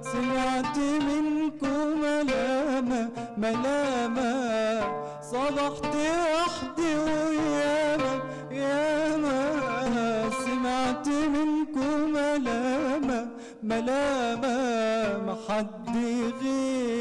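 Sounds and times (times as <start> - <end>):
man singing: 0.0 - 17.0
oud playing: 0.0 - 17.0.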